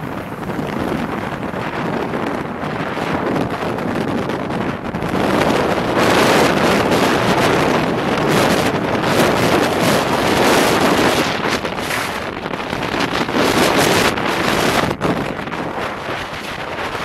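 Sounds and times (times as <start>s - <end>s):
car road and tyre noise: 0.0s - 17.0s
wind rushing over microphone: 0.0s - 17.0s.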